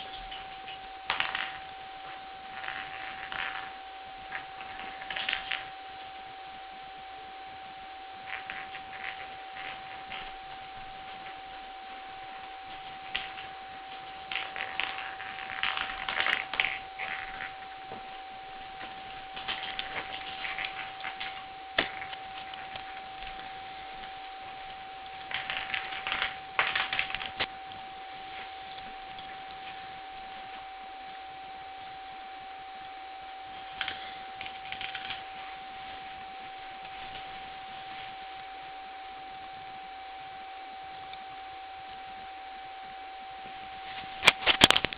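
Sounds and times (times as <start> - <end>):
high-pitched whine and hiss: 0.0 - 44.9.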